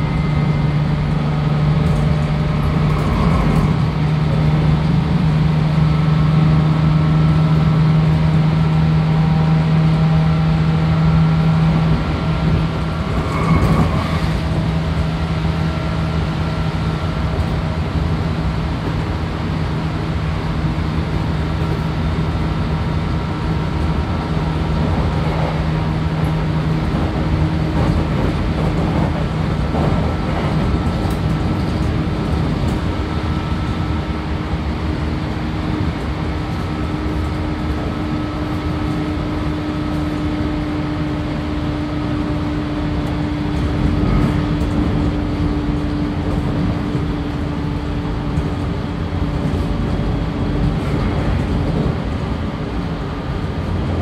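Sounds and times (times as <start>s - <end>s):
train motors humming: 0.0s - 54.0s
train wheels rumbling on rail: 0.0s - 54.0s.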